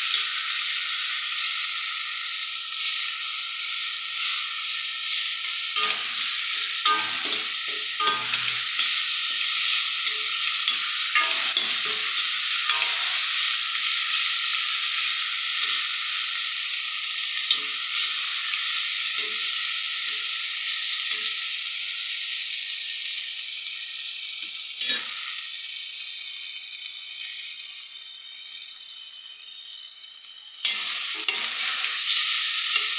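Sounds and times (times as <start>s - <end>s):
tomatoes sizzling in hot oil: 0.0s - 32.9s.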